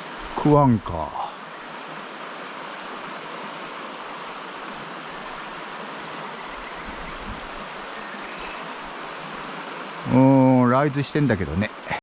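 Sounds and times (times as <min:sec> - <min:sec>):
mountain stream flowing: 0:00.0 - 0:12.0.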